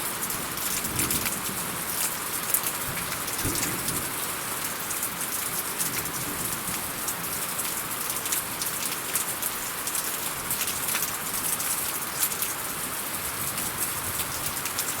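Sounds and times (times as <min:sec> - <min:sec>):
steady rain hissing: 0:00.0 - 0:15.0
sharp raindrop splashes: 0:00.3 - 0:15.0.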